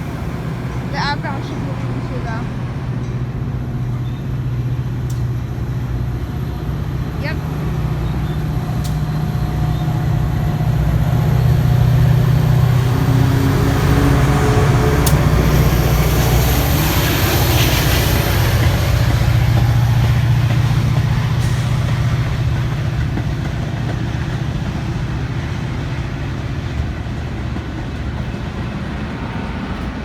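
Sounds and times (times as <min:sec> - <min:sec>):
commuter train rumbling on rails: 0:00.0 - 0:30.0.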